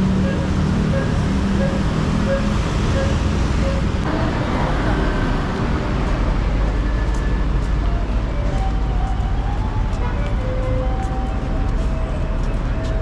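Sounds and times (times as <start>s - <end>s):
city traffic: 0.0s - 13.0s.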